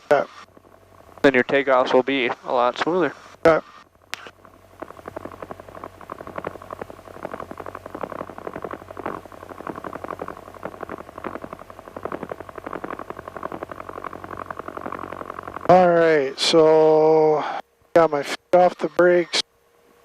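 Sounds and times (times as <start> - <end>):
piston aircraft engine pulsing: 0.0 - 20.0.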